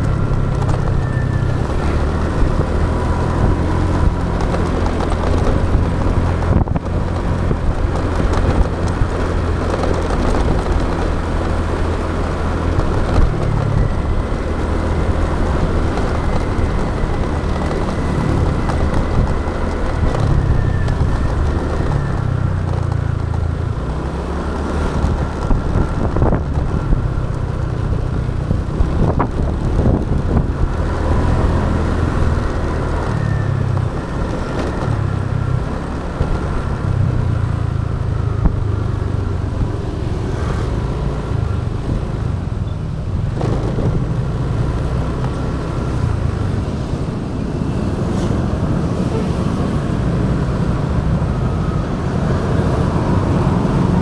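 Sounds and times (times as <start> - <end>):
motorbike engine running: 0.0 - 54.0
wind and road noise: 0.0 - 54.0.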